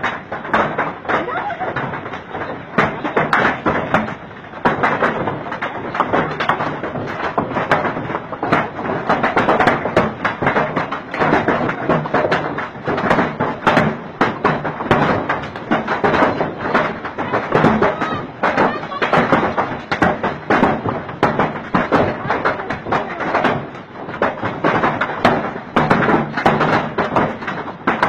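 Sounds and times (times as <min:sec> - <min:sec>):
constant rush of noise: 0:00.0 - 0:28.0
hailstones thudding and tapping: 0:00.0 - 0:28.0.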